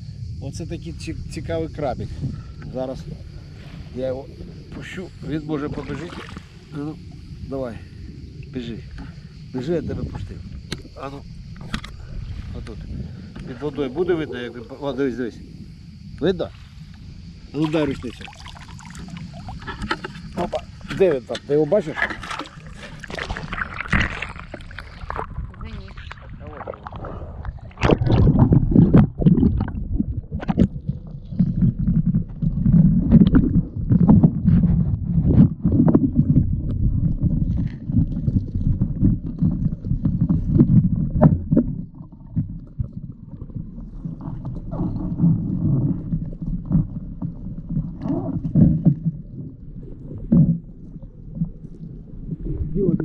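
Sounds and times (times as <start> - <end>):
underwater churning rumble: 0.0 - 53.0.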